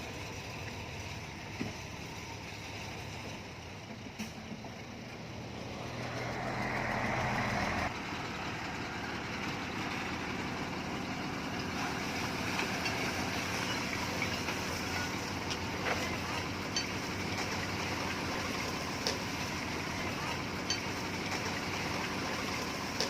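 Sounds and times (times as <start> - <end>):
heavy machinery engine running: 0.0 - 23.0.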